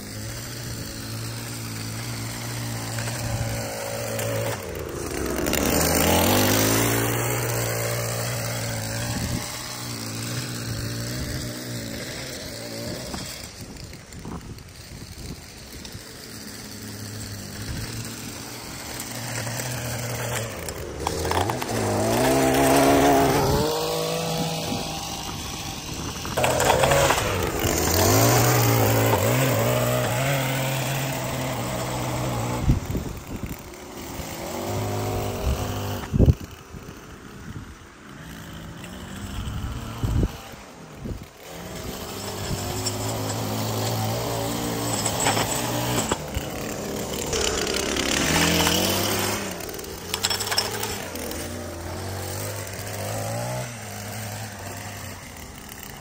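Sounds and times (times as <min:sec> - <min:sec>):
gas-powered edger running: 0:00.0 - 0:56.0
lawn equipment engines running: 0:00.0 - 0:56.0.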